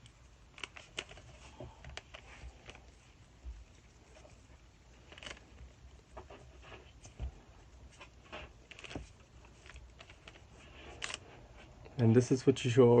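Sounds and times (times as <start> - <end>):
fingers rustling on clay: 0.0 - 12.1.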